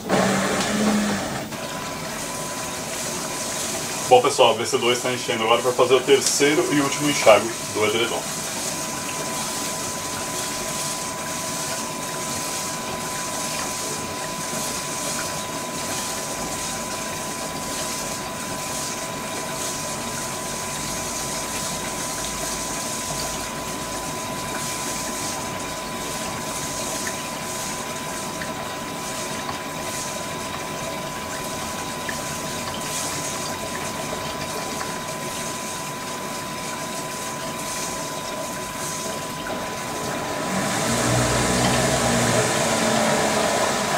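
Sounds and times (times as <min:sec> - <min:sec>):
water pouring into washer drum: 0:00.0 - 0:43.9
thin constant tone: 0:02.3 - 0:40.2.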